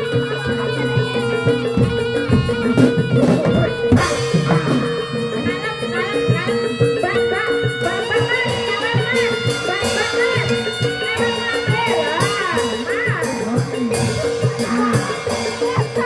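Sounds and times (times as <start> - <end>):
hand drum strokes: 0.0 - 16.0
traditional ensemble music: 0.0 - 16.0.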